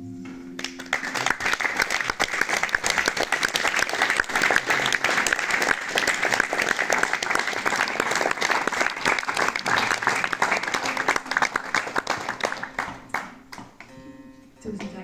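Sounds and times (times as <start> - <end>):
audience applauding: 0.6 - 14.0.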